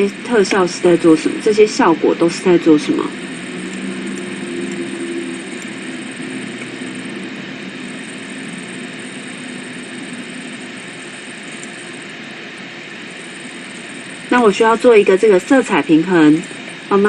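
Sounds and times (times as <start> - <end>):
low hum: 0.0 - 17.0
steady rushing noise: 0.0 - 17.0.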